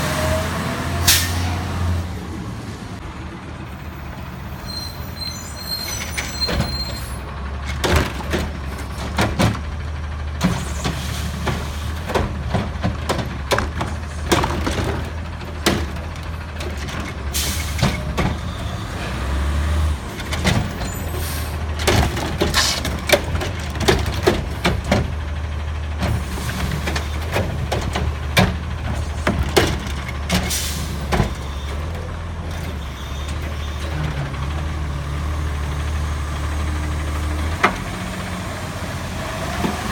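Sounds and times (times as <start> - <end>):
truck engine running: 2.2 - 39.9.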